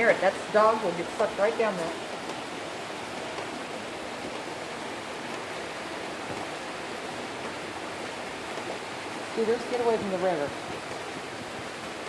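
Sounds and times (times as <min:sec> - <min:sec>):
rain and floodwater rushing: 0:00.0 - 0:12.0.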